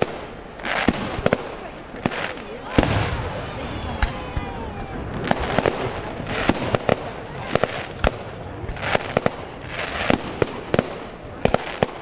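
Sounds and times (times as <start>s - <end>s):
fireworks banging: 0.0s - 12.0s
fireworks hissing: 0.0s - 12.0s.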